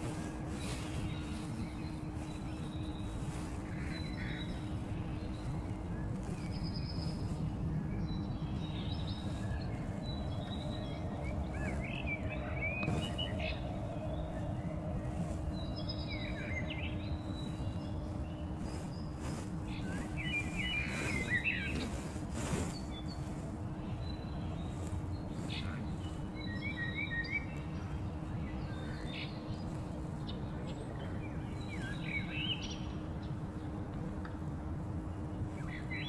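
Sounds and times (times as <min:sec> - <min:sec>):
small birds chirping: 0:00.0 - 0:36.0
steady low rumble: 0:00.0 - 0:36.0.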